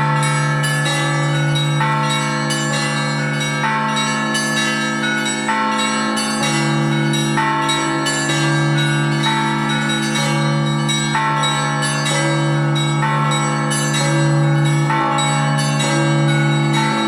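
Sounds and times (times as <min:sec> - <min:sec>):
deep bell humming: 0:00.0 - 0:17.0.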